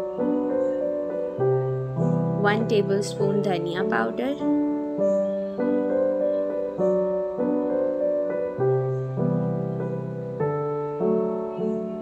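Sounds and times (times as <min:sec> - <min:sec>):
gentle piano tune: 0:00.0 - 0:12.0.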